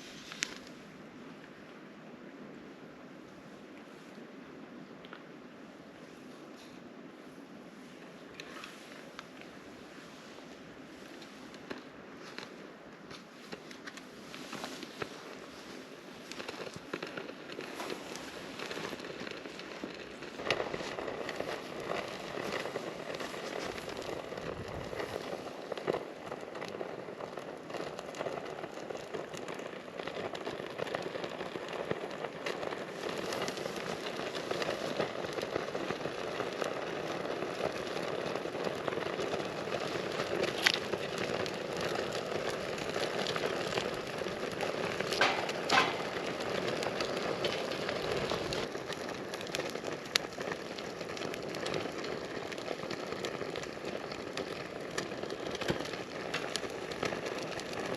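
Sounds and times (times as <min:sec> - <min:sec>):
campfire crackling: 0:00.0 - 0:57.9
firewood popping: 0:11.0 - 0:57.9.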